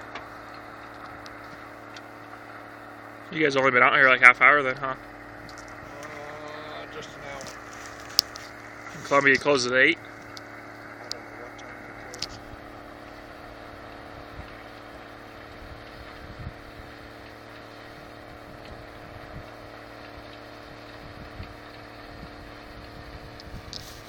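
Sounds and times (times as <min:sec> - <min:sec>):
harvest machinery engine drone: 0:00.0 - 0:24.0.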